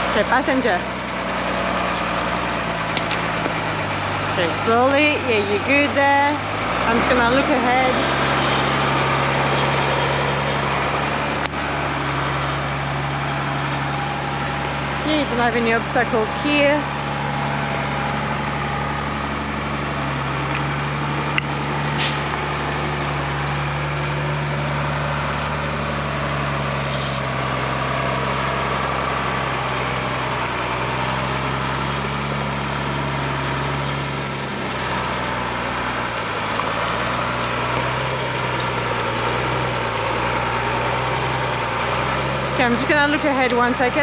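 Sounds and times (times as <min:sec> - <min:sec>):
diesel engine running at low revs: 0:00.0 - 0:44.0.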